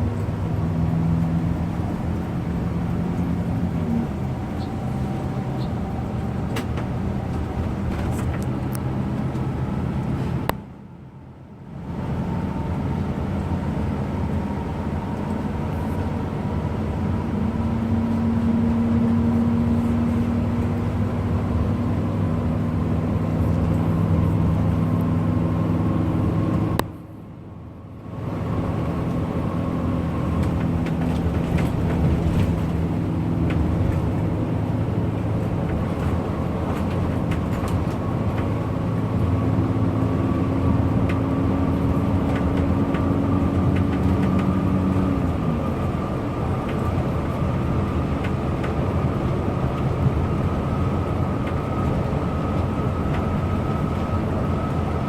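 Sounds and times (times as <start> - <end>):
bus engine running: 0.0 - 55.0
road noise: 0.0 - 55.0.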